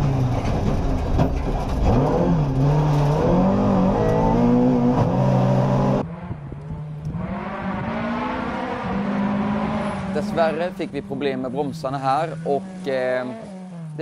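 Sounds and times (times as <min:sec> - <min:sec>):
car approaching: 0:00.0 - 0:14.0
car engine revving: 0:00.0 - 0:14.0.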